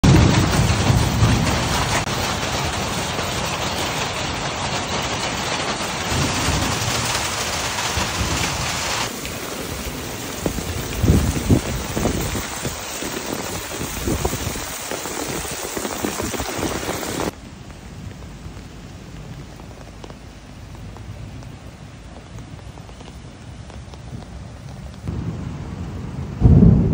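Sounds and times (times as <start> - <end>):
heavy rain and hail: 0.0 - 26.9
steady rain: 0.0 - 26.9.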